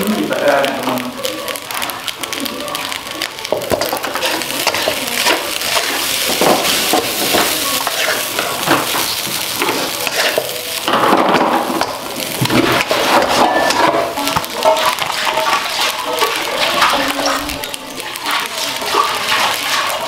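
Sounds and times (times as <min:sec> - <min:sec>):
rice sizzling in a wok: 0:00.0 - 0:20.0
metal spatula scraping a wok: 0:03.5 - 0:20.0.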